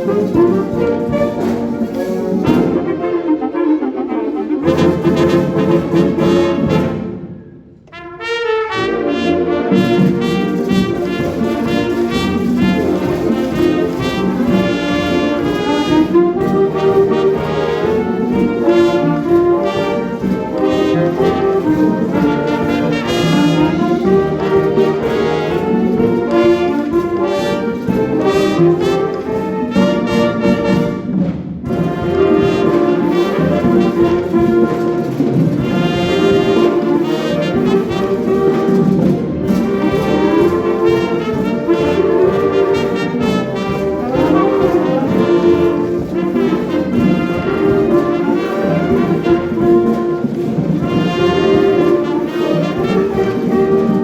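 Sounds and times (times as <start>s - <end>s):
wind band with brass: 0.0s - 54.0s.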